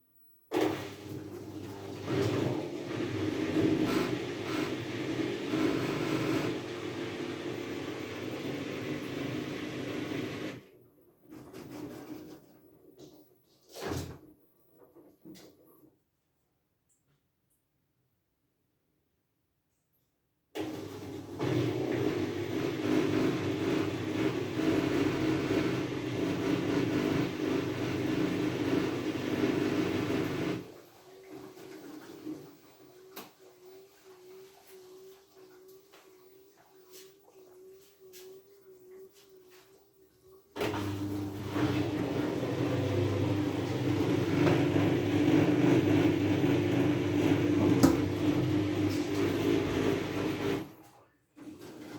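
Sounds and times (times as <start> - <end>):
washing machine running: 0.5 - 13.2, 20.6 - 39.8, 40.5 - 51.9.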